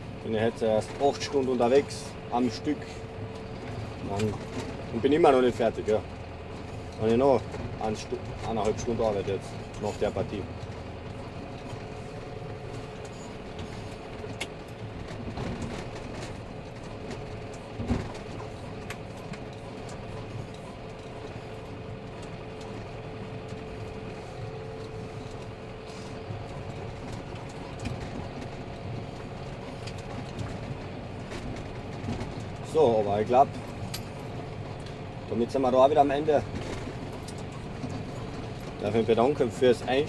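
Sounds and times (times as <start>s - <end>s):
tractor engine under load: 0.0s - 40.0s.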